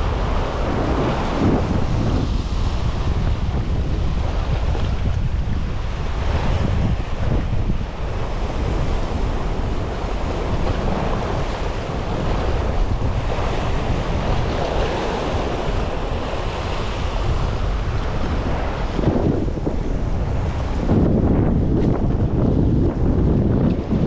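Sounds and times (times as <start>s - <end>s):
waves breaking against rocks: 0.0s - 24.0s
wind buffeting microphone: 0.0s - 24.0s.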